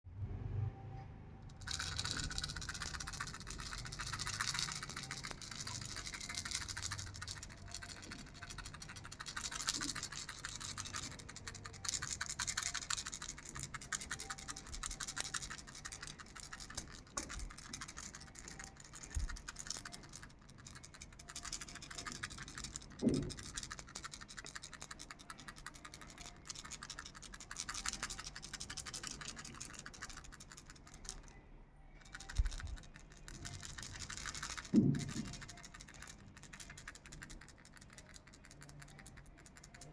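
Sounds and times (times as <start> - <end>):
baby rattle beads rattling: 1.5 - 31.4, 32.0 - 39.9.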